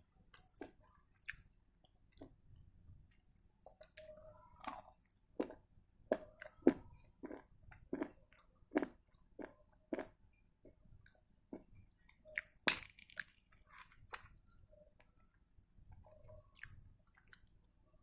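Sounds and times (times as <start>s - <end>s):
soft chewing: 0.2s - 18.0s.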